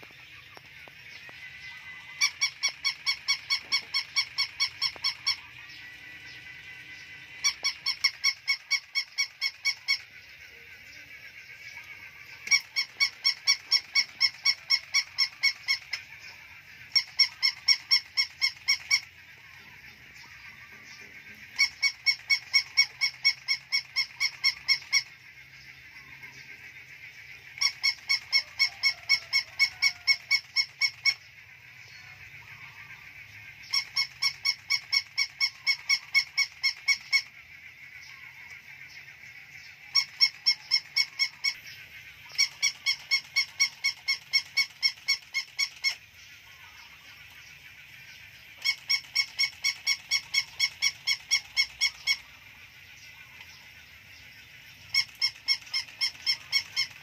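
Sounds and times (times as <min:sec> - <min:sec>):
toy puppy barking electronically: 0:00.7 - 0:52.7, 0:54.8 - 0:57.0.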